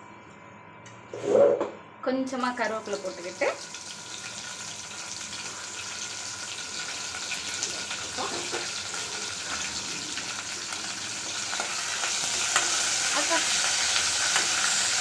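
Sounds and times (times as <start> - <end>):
spices sizzling in hot oil: 2.4 - 15.0.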